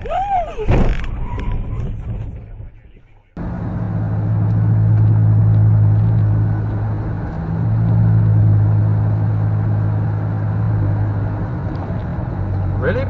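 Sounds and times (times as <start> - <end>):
road noise: 0.1 - 13.0
car engine drone: 1.3 - 13.0.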